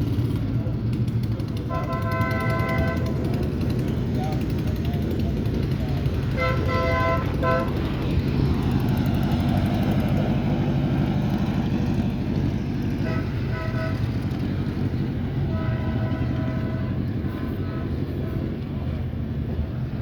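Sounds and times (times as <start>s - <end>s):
race car engine rumbling: 0.0s - 20.0s.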